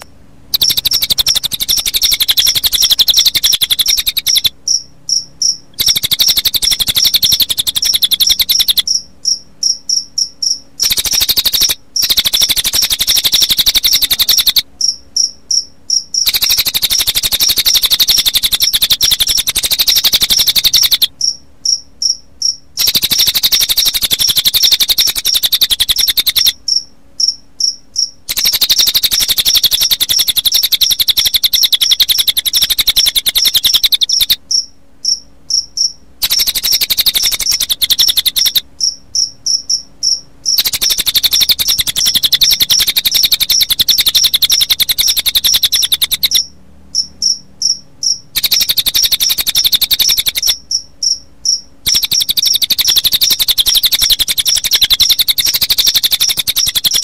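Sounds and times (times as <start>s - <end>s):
bird calls with fast trills: 0.0s - 22.2s, 22.8s - 57.0s
crickets chirping: 0.0s - 57.0s.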